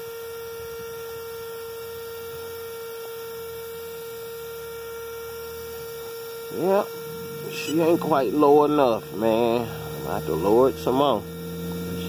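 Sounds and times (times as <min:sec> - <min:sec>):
steady electronic hum: 0:00.0 - 0:12.0.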